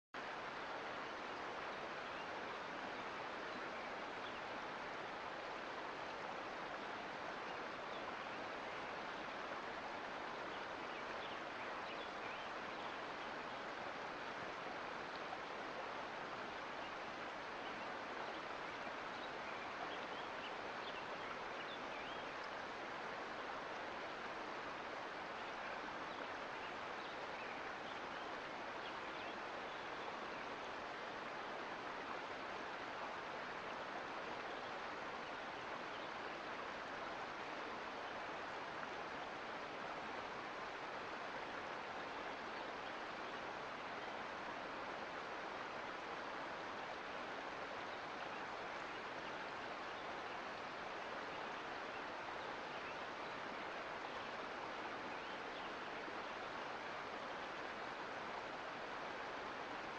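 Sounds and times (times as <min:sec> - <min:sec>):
creek water rushing: 0:00.2 - 0:59.9.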